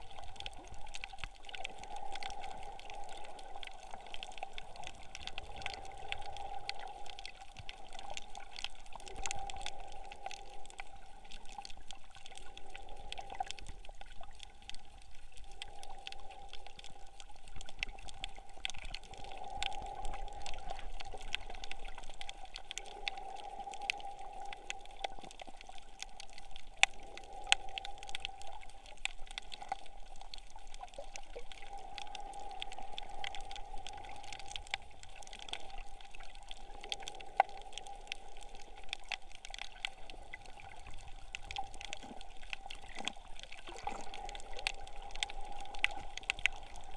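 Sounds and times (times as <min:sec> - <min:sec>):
faint clicks and crackles: 0:00.0 - 0:46.9.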